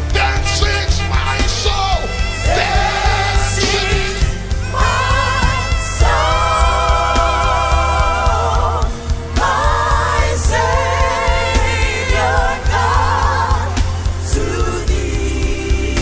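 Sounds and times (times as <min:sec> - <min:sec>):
bass line: 0:00.0 - 0:16.0.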